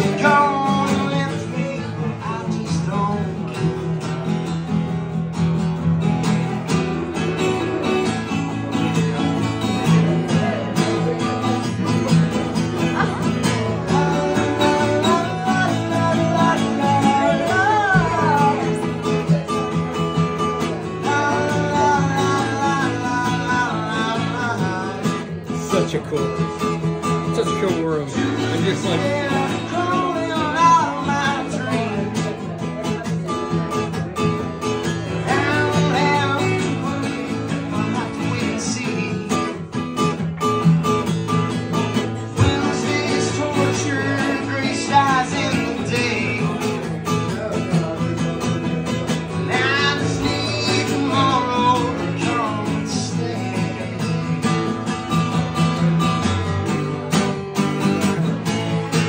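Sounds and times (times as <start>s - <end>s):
acoustic guitars playing: 0.0s - 59.0s
man singing: 0.0s - 59.0s.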